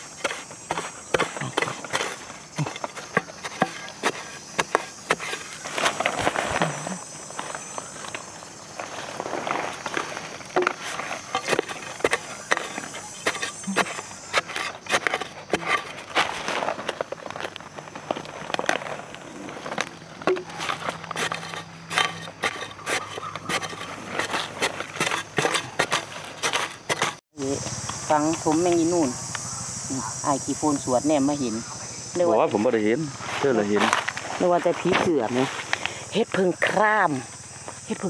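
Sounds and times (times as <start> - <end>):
footsteps on dry leaf litter: 0.0 - 28.9, 33.1 - 35.9
insects shrilling: 0.0 - 38.0.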